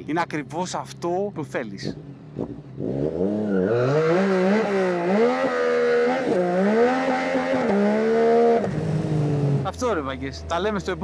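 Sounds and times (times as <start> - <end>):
wind and road noise: 0.0 - 11.0
motorcycle engine accelerating: 1.8 - 11.0.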